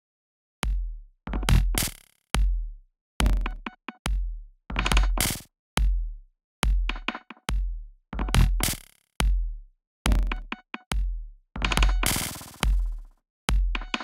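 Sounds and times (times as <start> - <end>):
electronic kick drum thumps: 0.6 - 14.0.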